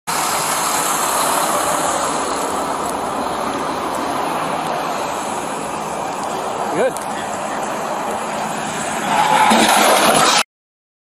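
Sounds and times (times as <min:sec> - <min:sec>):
highway traffic rushing: 0:00.1 - 0:10.5.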